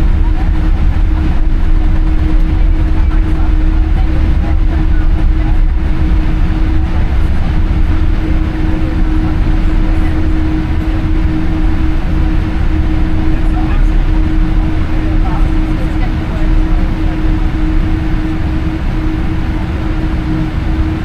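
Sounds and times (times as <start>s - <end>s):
airliner cabin rumble: 0.0s - 21.0s
jet engines humming: 0.0s - 21.0s.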